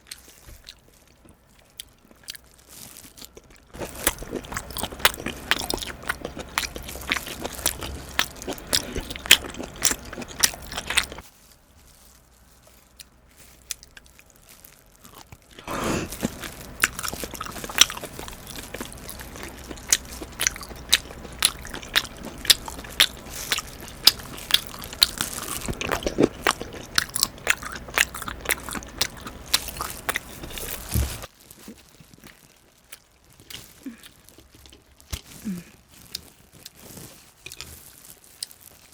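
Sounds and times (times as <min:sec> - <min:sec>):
wet crunchy chewing: 0:00.0 - 0:11.3, 0:12.0 - 0:38.9.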